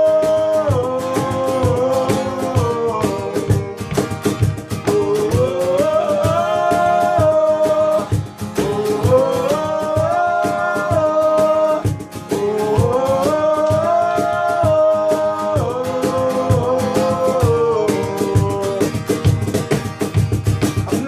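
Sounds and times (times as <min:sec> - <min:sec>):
person singing wordless notes: 0:00.0 - 0:19.1
strummed acoustic guitar: 0:00.0 - 0:21.0.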